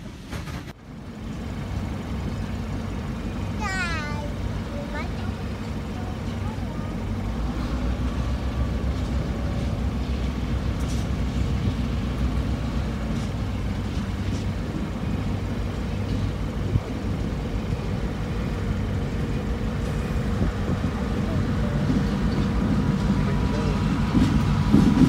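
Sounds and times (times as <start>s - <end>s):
diesel locomotive engine rumble: 0.0s - 25.0s.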